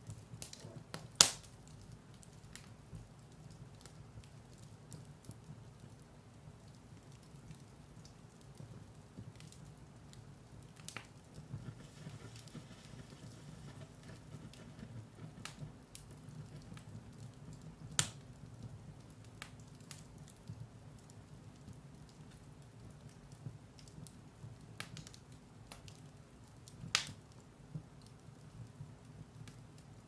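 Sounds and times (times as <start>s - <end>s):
fire flames rumbling: 0.0s - 27.0s
fire crackling and popping: 0.0s - 30.0s.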